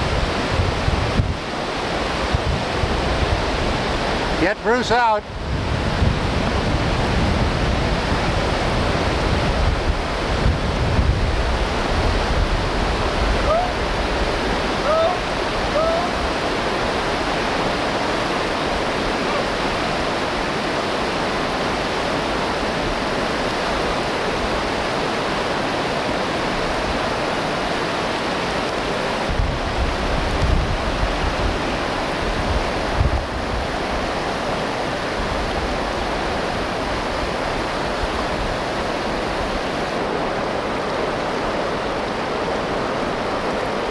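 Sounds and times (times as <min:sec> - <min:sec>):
whitewater rushing: 0:00.0 - 0:43.9.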